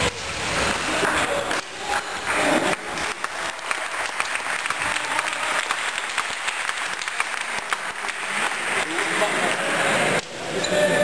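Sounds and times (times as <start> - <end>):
spectators applauding: 0.0 - 10.2.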